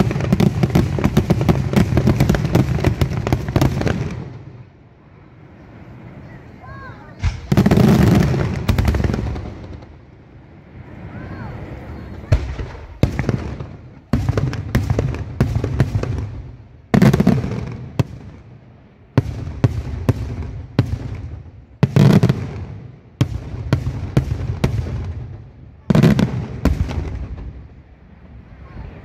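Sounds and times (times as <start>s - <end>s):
fireworks bursting: 0.0s - 29.0s
heavy booming firework salvos: 0.0s - 29.0s.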